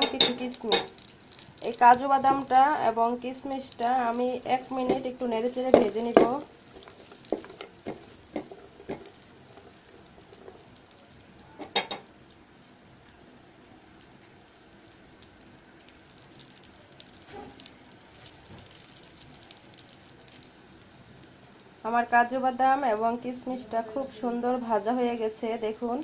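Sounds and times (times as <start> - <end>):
nuts frying in hot ghee: 0.0 - 26.0.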